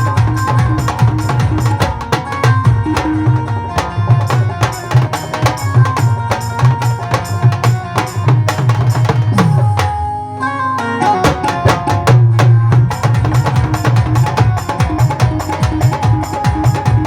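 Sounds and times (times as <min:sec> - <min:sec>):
fast drum beat: 0:00.0 - 0:10.0, 0:11.2 - 0:17.0
live band music: 0:00.0 - 0:17.0.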